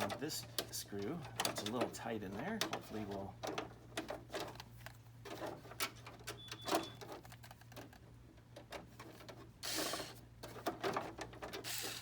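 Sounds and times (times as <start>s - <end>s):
metal and plastic clicks and scrapes: 0.0s - 12.0s.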